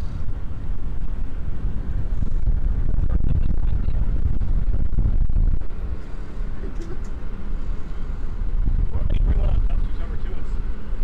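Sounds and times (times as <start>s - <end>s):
boat motor running: 0.0s - 11.0s
wind buffeting microphone: 0.0s - 11.0s.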